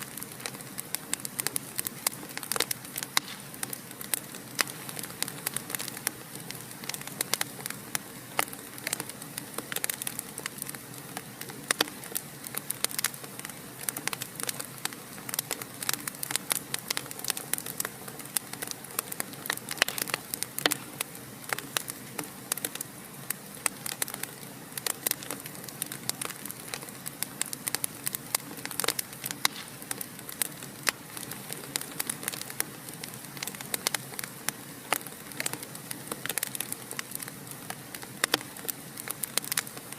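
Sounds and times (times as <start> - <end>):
soft hiss of fire: 0.0 - 39.9
wood fire crackling: 0.0 - 39.9.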